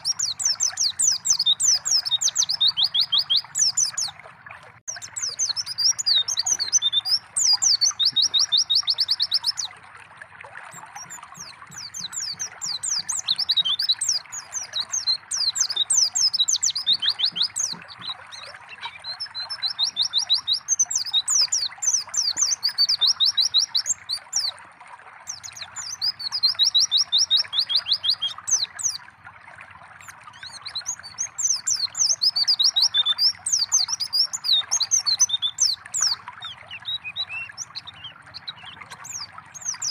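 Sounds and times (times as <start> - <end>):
bird chattering song with trills: 0.0 - 4.2, 4.9 - 9.7, 10.7 - 24.6, 25.3 - 29.0, 30.0 - 39.9
trickling water: 0.0 - 39.9.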